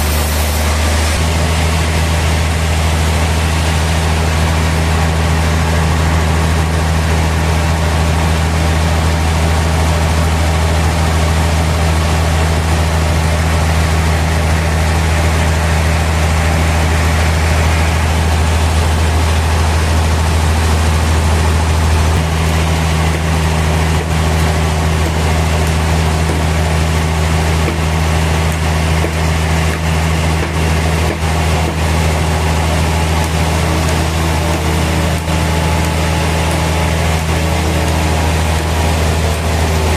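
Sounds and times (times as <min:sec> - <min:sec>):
noisy wash: 0:00.0 - 0:39.9
sawmill machinery hum: 0:00.0 - 0:39.9.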